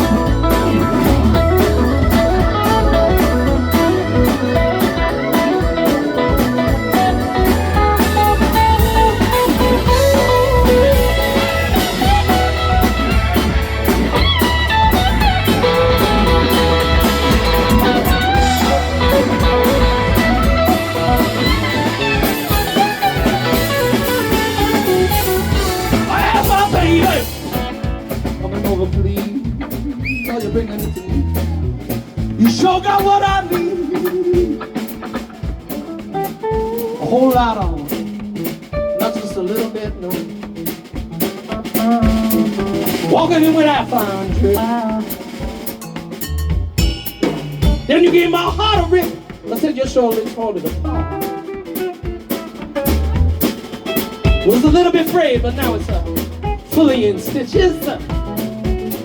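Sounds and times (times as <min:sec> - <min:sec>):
blues-rock band playing: 0:00.0 - 0:59.0
electric guitar lead line: 0:00.0 - 0:59.0.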